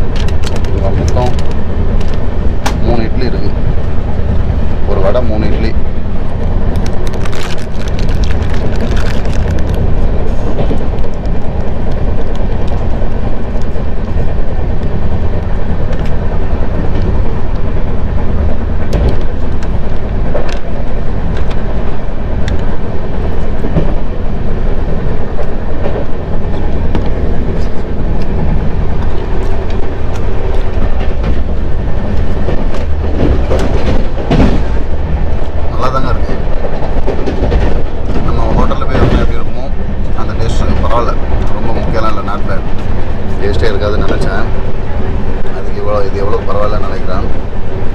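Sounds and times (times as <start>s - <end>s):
train running rumble: 0.0s - 47.9s.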